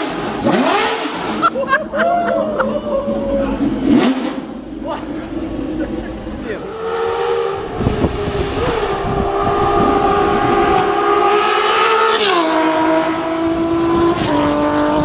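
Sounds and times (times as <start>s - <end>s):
engine running: 0.0s - 13.7s.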